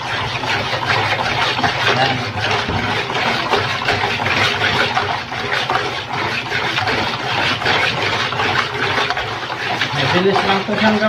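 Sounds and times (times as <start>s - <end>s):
whisk beating batter in plastic bowl: 0.0s - 11.0s.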